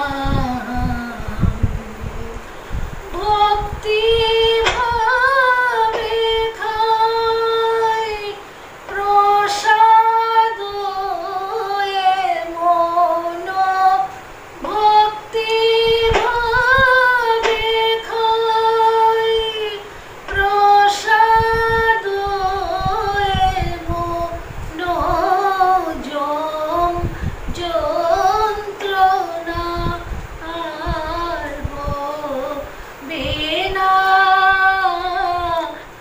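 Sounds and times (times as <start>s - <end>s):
woman singing unaccompanied: 0.0s - 36.0s.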